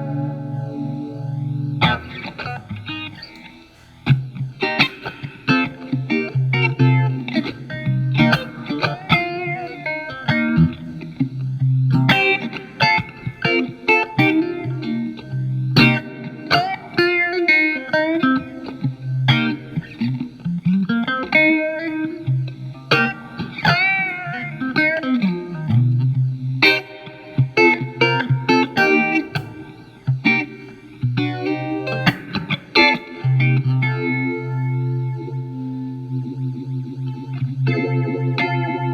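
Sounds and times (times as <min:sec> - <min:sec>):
electric guitar with phaser: 0:00.0 - 0:38.9.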